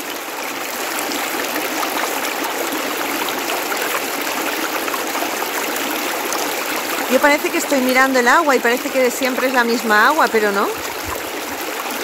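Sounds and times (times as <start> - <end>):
water rushing down channel: 0.0 - 12.0.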